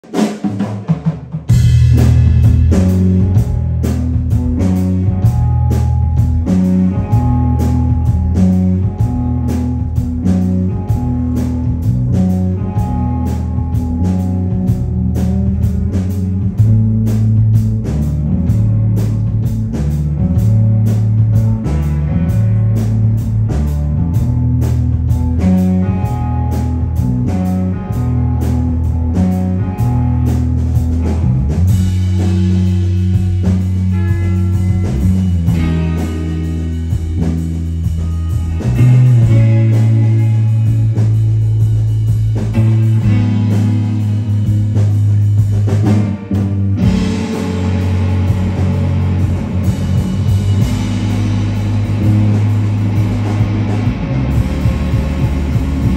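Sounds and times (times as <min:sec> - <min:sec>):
drum kit beat: 0:00.0 - 0:55.9
electric guitars: 0:00.6 - 0:55.9
low bass line: 0:01.4 - 0:55.9.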